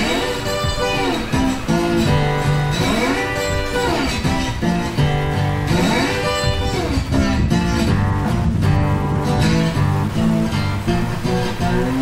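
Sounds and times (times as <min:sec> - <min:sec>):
gliding melody line: 0:00.0 - 0:12.0
guitar background music: 0:00.0 - 0:12.0.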